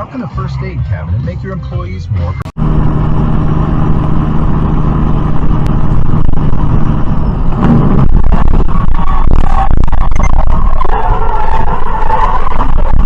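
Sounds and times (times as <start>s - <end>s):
vehicle engine rumbling: 0.4s - 13.0s.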